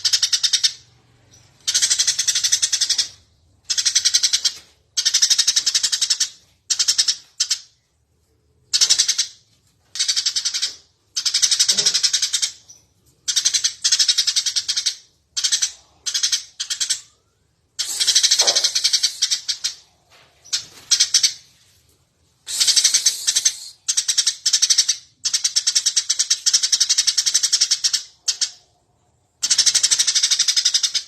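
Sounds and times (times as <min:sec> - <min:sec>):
sparrow chirping: 0:00.0 - 0:07.8, 0:08.7 - 0:21.6, 0:22.5 - 0:28.7, 0:29.4 - 0:31.0.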